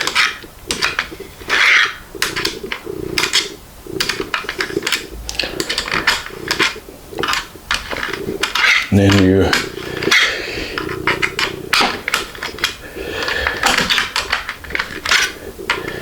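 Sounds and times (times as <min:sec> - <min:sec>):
small parts clicking and rattling: 0:00.0 - 0:16.0.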